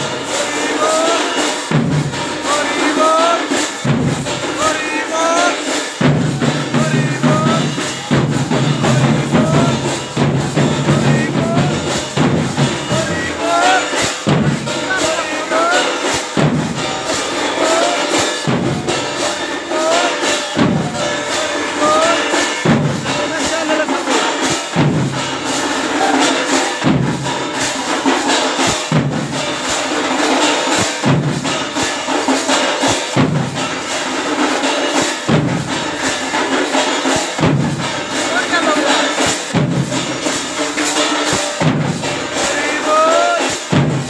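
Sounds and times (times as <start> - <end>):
barrel drum strokes: 0.0 - 44.0
crowd voices: 0.0 - 44.0
metallic jingling percussion: 0.0 - 44.0.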